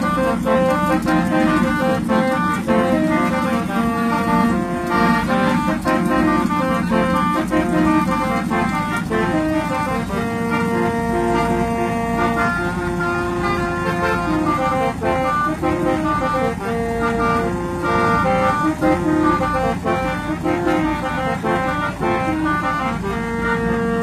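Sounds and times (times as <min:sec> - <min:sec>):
musical vehicle horn playing a tune: 0:00.0 - 0:24.0.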